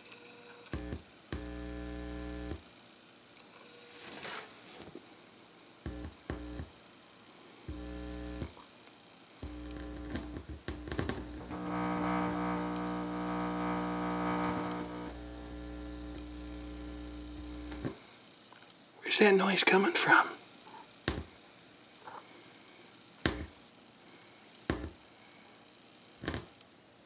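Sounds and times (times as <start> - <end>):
speakers buzzing with mains hum: 0.0 - 19.3, 20.4 - 26.7.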